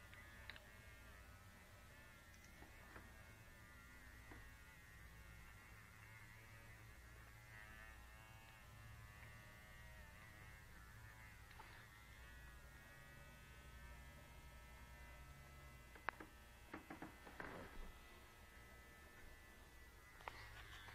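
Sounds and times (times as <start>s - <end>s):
faint vibrator buzz: 0.0s - 20.9s.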